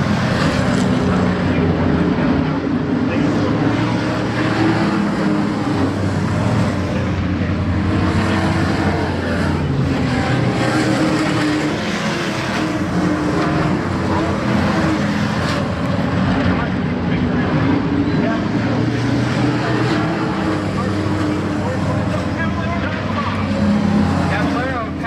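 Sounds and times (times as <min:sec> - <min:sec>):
race truck engines: 0:00.0 - 0:25.0.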